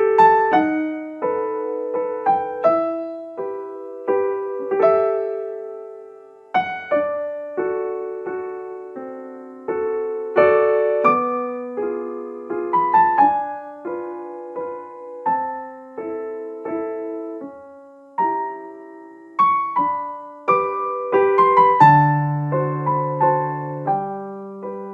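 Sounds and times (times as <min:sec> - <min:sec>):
gentle piano melody: 0:00.0 - 0:24.9.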